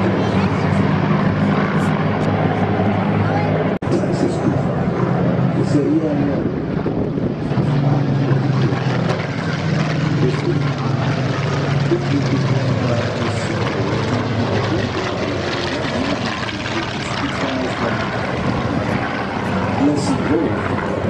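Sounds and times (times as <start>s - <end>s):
propeller aircraft engine drone: 0.0s - 21.0s.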